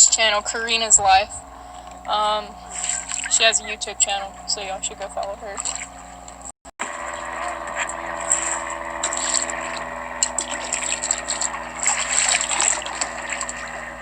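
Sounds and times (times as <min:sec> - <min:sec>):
water trickling around kayak: 0:00.2 - 0:14.0
paddle splashes: 0:01.5 - 0:14.0.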